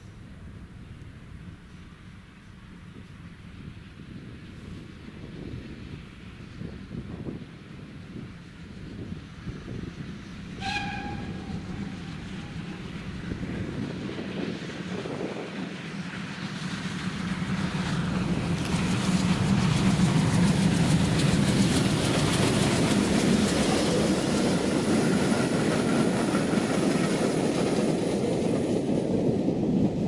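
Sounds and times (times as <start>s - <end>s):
steam locomotive passing: 0.0s - 30.0s
train wheels rolling on rails: 0.0s - 30.0s.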